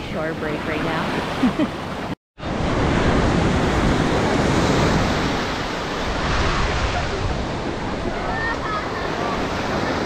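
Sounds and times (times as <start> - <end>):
waves breaking on sand: 0.0 - 10.0.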